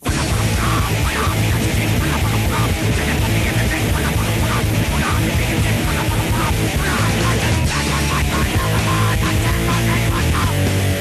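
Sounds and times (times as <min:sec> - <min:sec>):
distorted punk rock music: 0:00.0 - 0:11.0.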